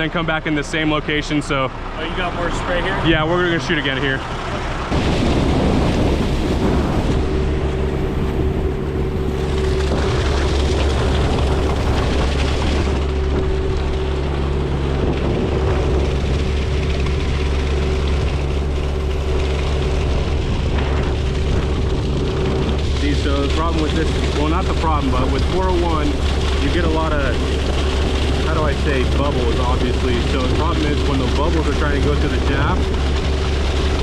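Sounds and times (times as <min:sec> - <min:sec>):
engine running with even hum: 0:00.0 - 0:34.0.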